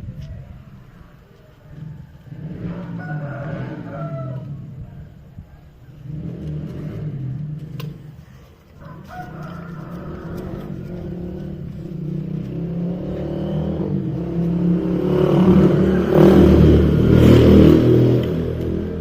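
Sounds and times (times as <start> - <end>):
vehicle engine revving: 1.7 - 8.4, 9.0 - 19.0.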